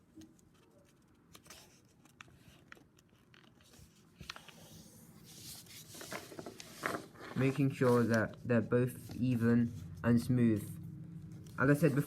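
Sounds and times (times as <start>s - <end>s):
paper rustling and crinkling: 0.2s - 10.0s.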